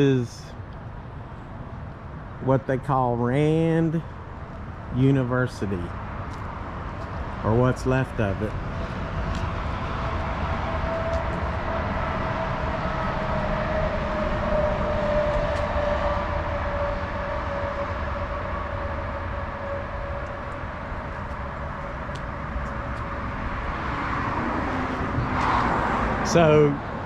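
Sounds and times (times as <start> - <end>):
vehicle engine rumble: 0.0 - 27.0
vehicle whine: 0.0 - 27.0.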